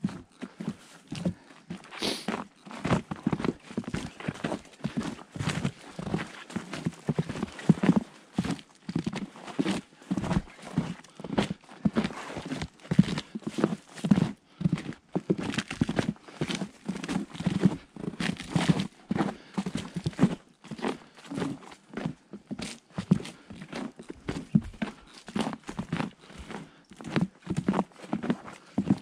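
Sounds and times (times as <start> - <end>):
boots crunching in snow: 0.0 - 29.0.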